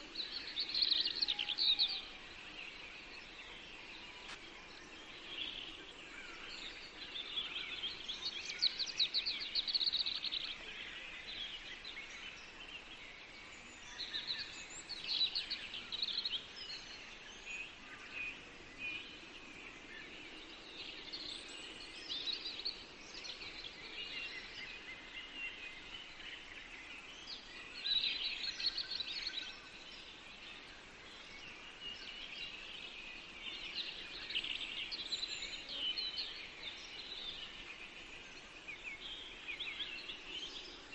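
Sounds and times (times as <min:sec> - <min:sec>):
faint background hiss: 0:00.0 - 0:40.9
songbirds singing and chirping: 0:00.0 - 0:40.9.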